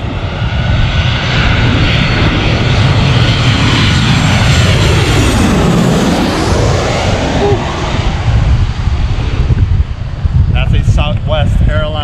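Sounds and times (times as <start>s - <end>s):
jet plane passing overhead: 0.0s - 12.0s.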